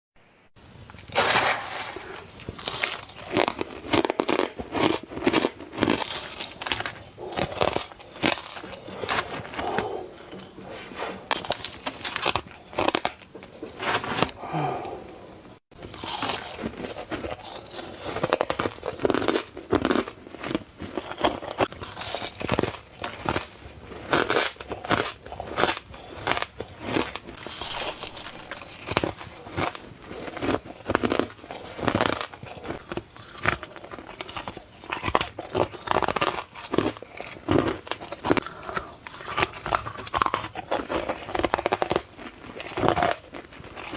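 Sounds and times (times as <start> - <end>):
crunching ice: 1.0 - 14.7, 15.8 - 43.9.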